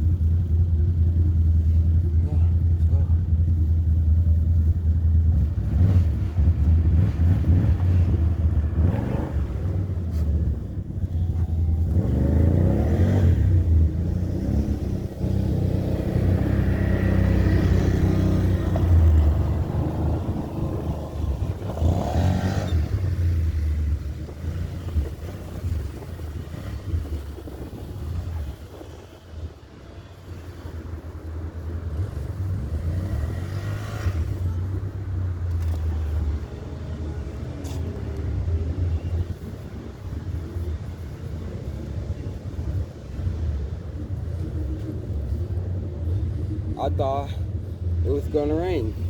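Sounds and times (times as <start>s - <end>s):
passing traffic: 0.0s - 49.0s
wind buffeting microphone: 3.4s - 46.8s.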